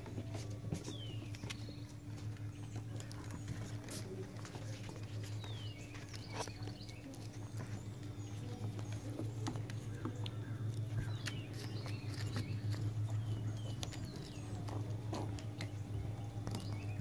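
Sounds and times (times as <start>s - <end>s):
paws and claws tapping: 0.0s - 17.0s
steady low hum: 0.0s - 17.0s.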